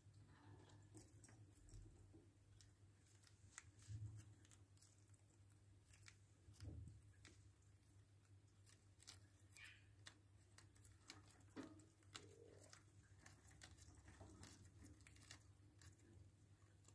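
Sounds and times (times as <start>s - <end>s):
birds' beaks tearing lettuce: 2.6s - 16.9s.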